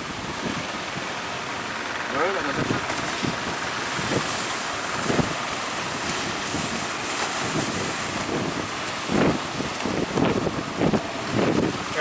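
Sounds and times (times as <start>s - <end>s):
surf rushing: 0.0s - 12.0s
wind buffeting microphone: 0.0s - 12.0s.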